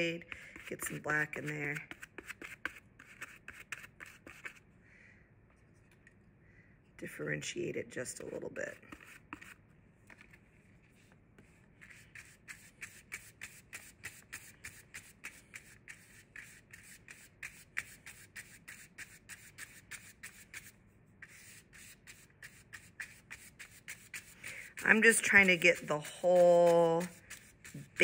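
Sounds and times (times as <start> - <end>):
paintbrush scrubbing paper: 0.5 - 4.6, 8.3 - 9.6, 10.8 - 28.0.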